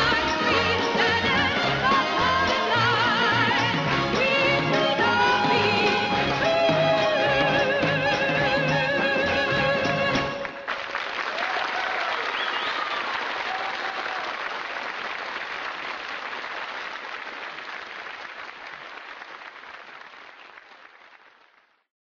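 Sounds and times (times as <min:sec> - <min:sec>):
crowd applauding and cheering: 0:00.0 - 0:21.9.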